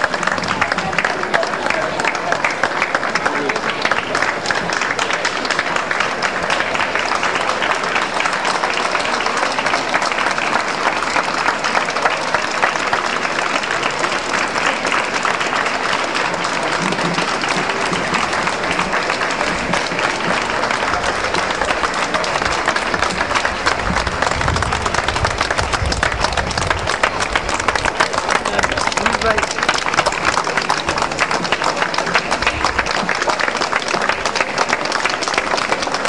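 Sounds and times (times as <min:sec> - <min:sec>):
crowd applauding: 0:00.0 - 0:36.0.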